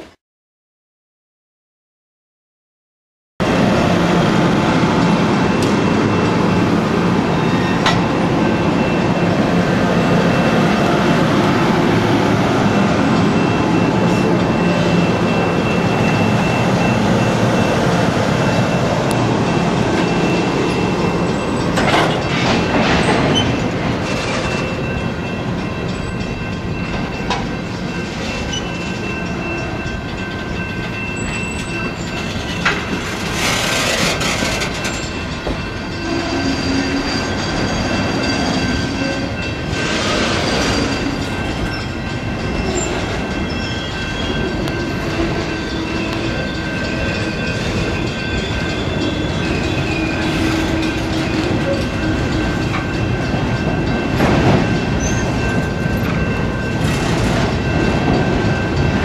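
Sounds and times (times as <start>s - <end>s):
train wheels rumbling on rails: 3.4s - 59.0s.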